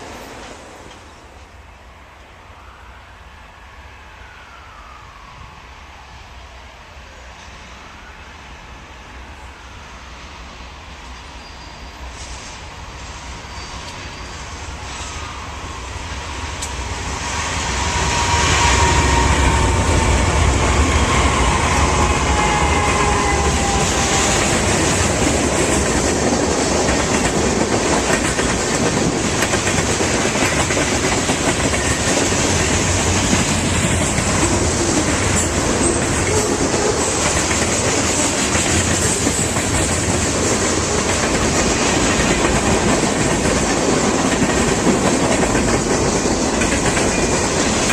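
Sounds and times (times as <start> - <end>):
train wheels rumbling on rails: 0.0 - 2.3, 6.2 - 47.9.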